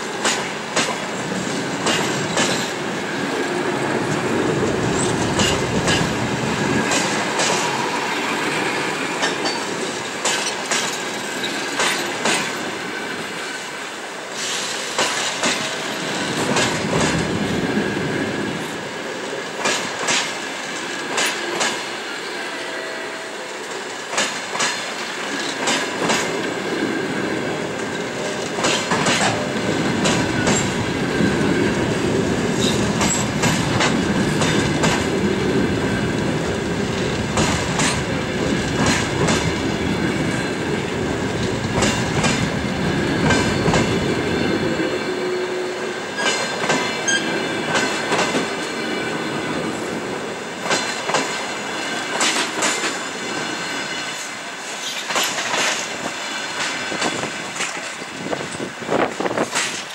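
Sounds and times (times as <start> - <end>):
train wheels clacking over rail joints: 0.0 - 18.7, 19.5 - 22.1, 23.6 - 27.0, 27.6 - 59.9
train rumble: 0.0 - 59.9.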